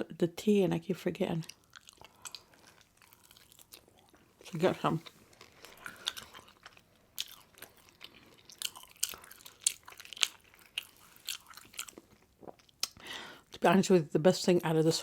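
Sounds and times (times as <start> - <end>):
person chewing crunchy food: 1.4 - 13.6.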